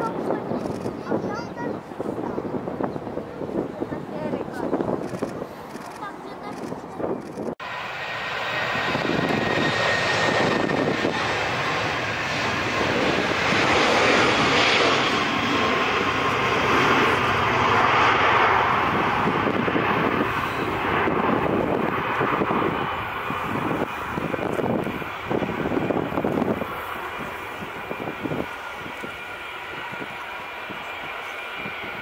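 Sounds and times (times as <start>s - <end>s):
jet engines at high power: 0.0s - 32.0s.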